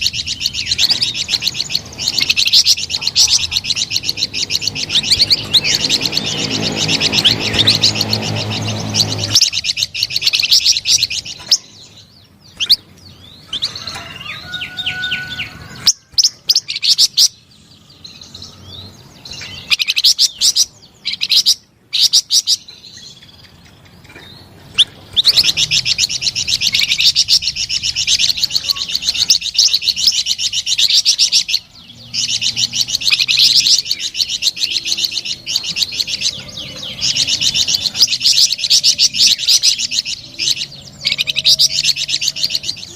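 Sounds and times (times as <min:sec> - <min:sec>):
bird chirps and clicks: 0:00.0 - 0:14.6, 0:19.2 - 0:42.9
songbird twittering song: 0:00.0 - 0:42.9.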